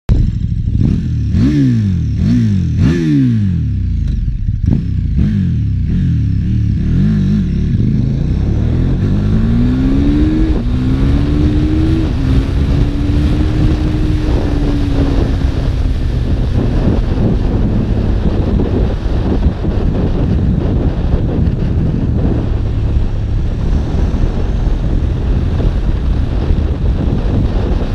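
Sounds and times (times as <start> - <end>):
motorcycle engine revving: 0.1 - 27.9
wind rush on microphone: 0.1 - 27.9.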